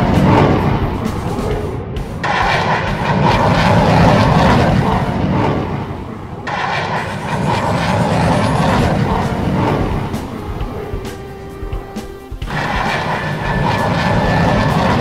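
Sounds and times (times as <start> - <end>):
faint rising whine: 0.0 - 15.0
jet engine rushing noise: 0.0 - 15.0.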